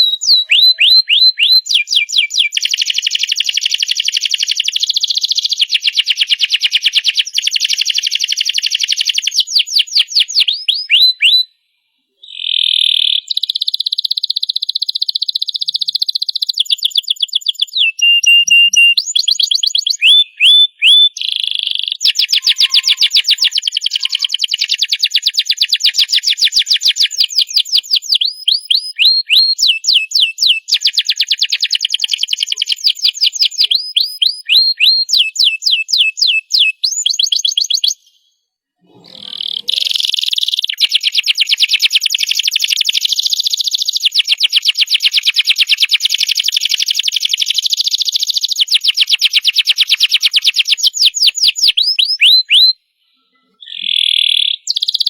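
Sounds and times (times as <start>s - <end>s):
canary singing trills and whistles: 0.0s - 11.6s, 12.2s - 55.0s.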